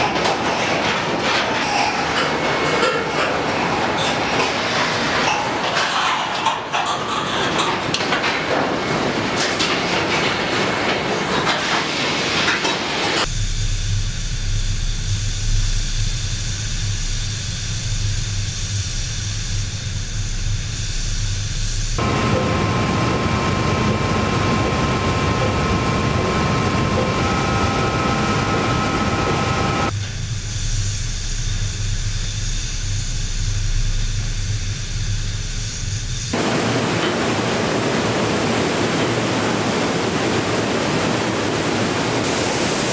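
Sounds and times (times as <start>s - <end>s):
factory machinery droning hum: 0.0s - 42.9s.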